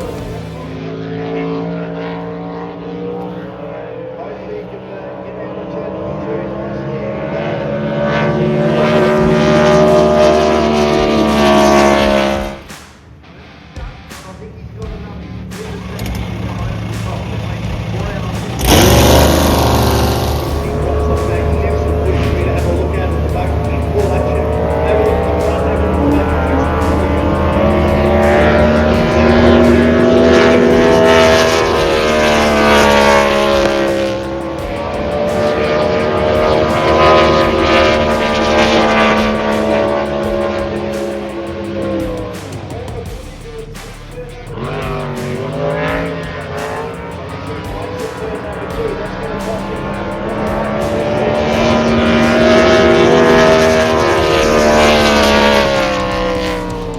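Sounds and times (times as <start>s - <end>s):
racing boat engine running hard: 0.0s - 12.8s, 13.8s - 56.9s.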